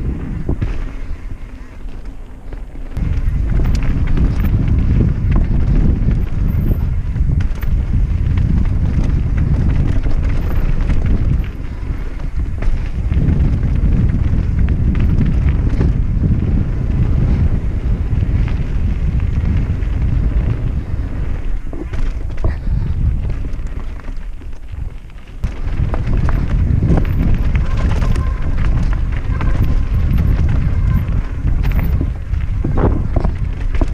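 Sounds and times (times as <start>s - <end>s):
bike tyres rumbling on trail: 0.0s - 33.9s
wind buffeting microphone: 0.0s - 33.9s.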